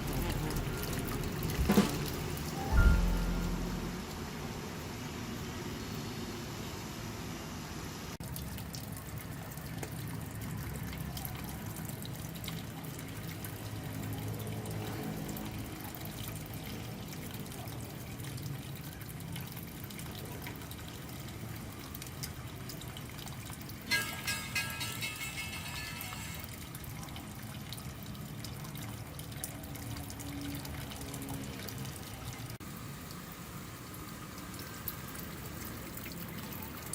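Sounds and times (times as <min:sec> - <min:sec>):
water trickling down a waterfall: 0:00.0 - 0:03.7, 0:04.8 - 0:36.9.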